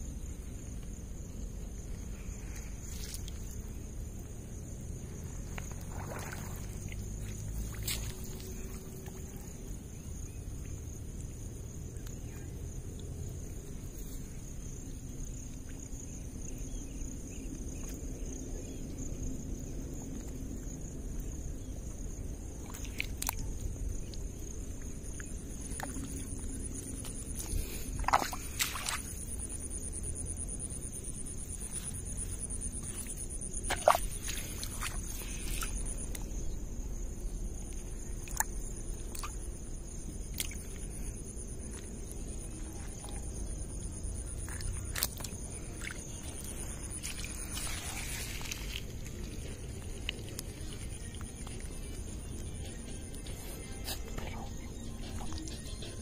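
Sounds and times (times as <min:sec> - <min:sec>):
crickets chirring: 0:00.0 - 0:56.0
low outdoor rumble: 0:00.0 - 0:56.0.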